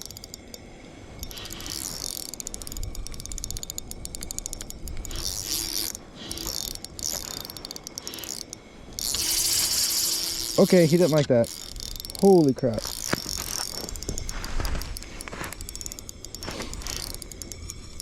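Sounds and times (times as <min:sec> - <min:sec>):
fishing reel drag clicking: 0:00.0 - 0:18.0.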